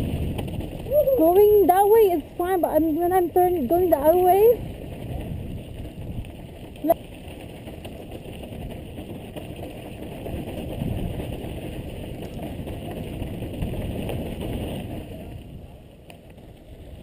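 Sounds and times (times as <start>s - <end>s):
wind rushing over microphone: 0.0s - 17.0s
tyres crunching over dirt: 3.3s - 17.0s.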